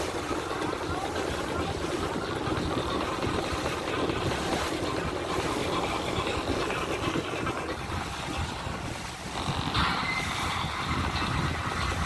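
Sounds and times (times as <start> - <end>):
boat engine running: 0.0 - 12.0
water rushing past: 0.0 - 12.0
wind buffeting microphone: 0.0 - 12.0.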